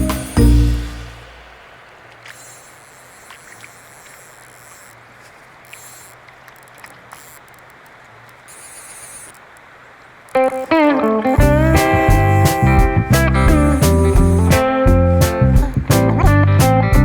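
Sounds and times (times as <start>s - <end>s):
river water flowing: 0.0s - 16.0s
faint ticks: 2.1s - 16.0s.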